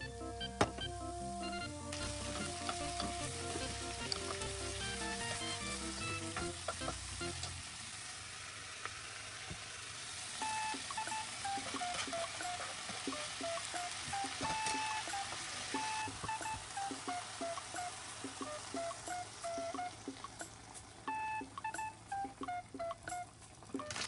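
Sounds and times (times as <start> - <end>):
light background music: 0.0 - 7.6, 10.4 - 24.0
meat and onion sizzling: 0.2 - 24.0.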